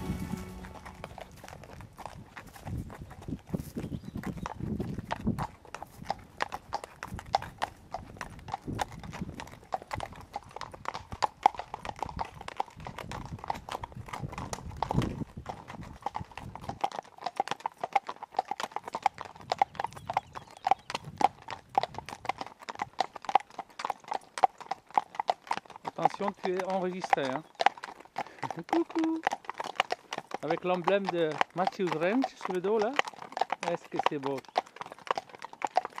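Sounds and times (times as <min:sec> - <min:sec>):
horse hooves clip-clopping: 0:00.0 - 0:36.0.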